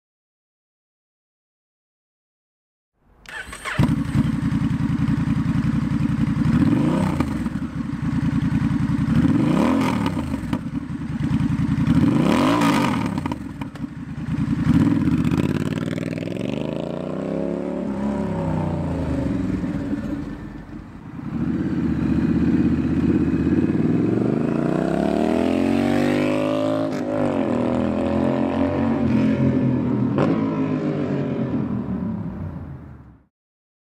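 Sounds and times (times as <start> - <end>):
motorcycle engine revving: 3.3 - 32.4.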